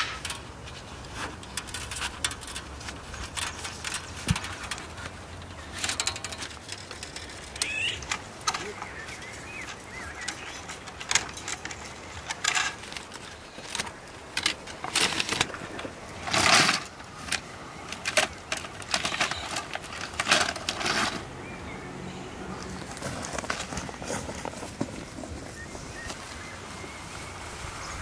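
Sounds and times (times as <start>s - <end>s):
reed canes knocking and rustling: 0.0s - 21.7s, 22.5s - 26.4s.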